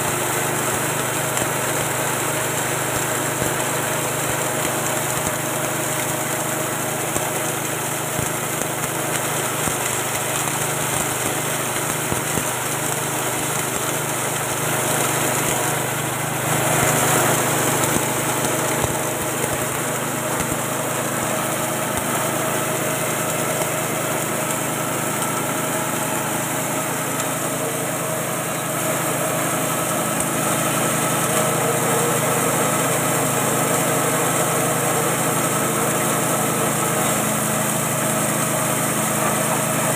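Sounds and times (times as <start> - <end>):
grinding mill rushing: 0.0 - 39.9
petrol engine running: 0.0 - 39.9.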